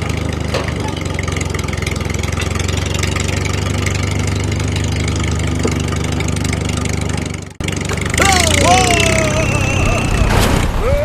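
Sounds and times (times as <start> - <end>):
small tractor engine running: 0.0 - 10.3.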